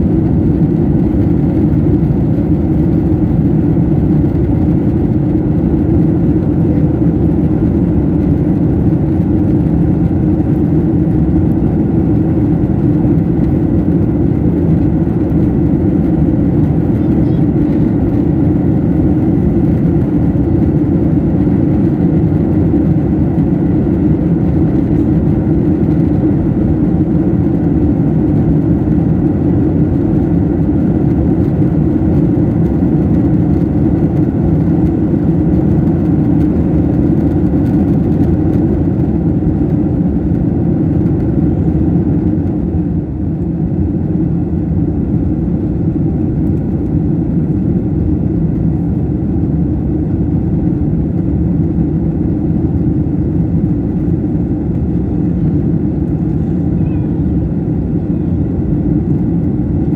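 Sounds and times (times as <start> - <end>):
plane engines droning in cabin: 0.0 - 59.9.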